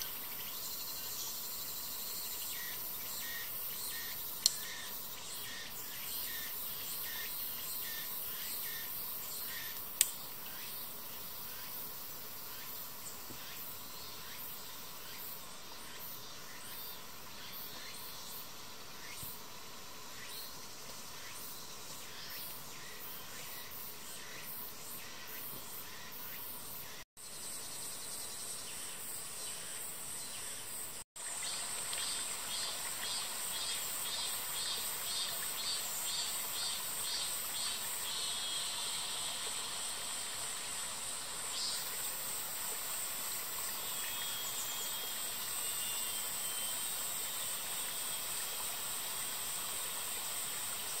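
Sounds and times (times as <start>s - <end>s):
high-pitched insect chorus: 0.0s - 51.0s.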